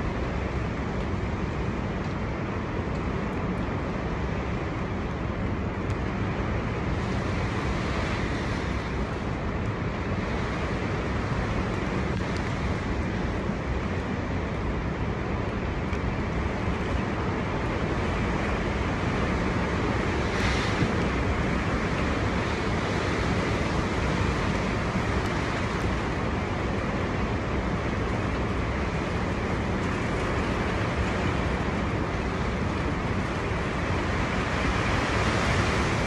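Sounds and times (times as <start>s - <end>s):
storm wind blowing: 0.0s - 36.0s
wind buffeting microphone: 1.8s - 36.0s.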